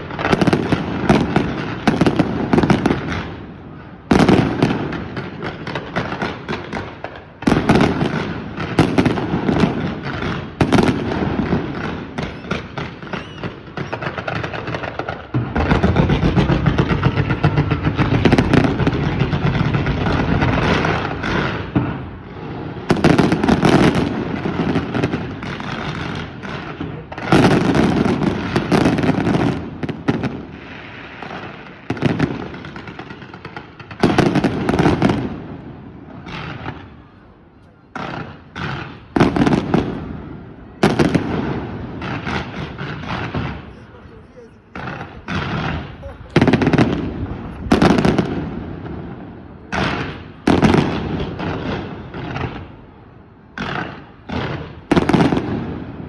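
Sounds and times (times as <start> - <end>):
fireworks bangs: 0.0 - 56.0
fireworks crackling and popping: 0.0 - 56.0.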